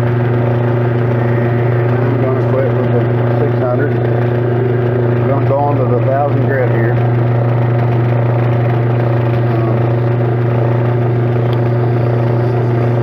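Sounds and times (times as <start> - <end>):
metal lathe humming: 0.0 - 13.0.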